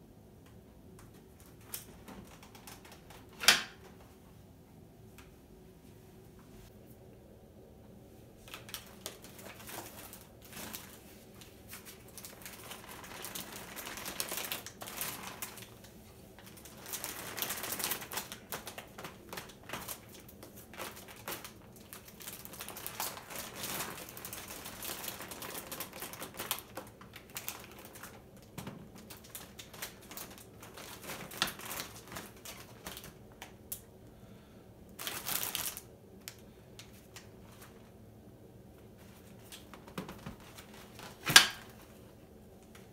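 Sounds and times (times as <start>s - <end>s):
plastic packaging crinkling: 1.1s - 3.8s, 8.4s - 33.9s, 34.9s - 38.0s, 38.8s - 42.9s.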